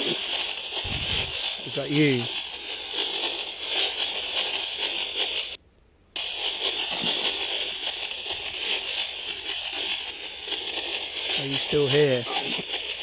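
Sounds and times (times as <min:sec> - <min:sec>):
radio static hiss: 0:00.0 - 0:05.6, 0:06.2 - 0:13.0.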